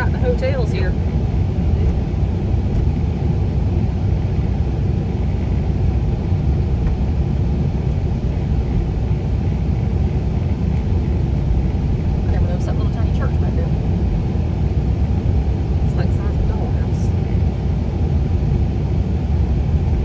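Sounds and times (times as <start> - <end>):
vehicle engine and tyre noise: 0.0 - 20.0.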